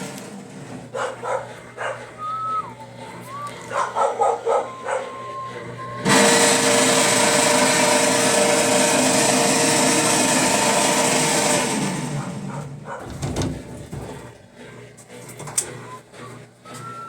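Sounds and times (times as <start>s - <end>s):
washing machine whirring hum: 0.0s - 17.0s.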